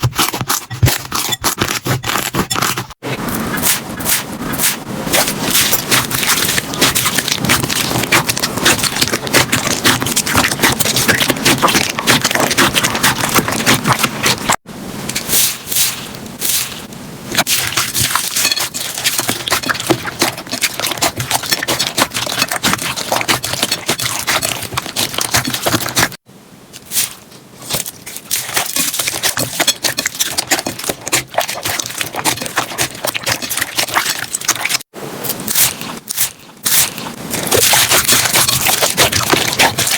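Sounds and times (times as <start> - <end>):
slime squelching and popping: 3.6 - 14.6, 15.2 - 26.2, 26.8 - 39.9.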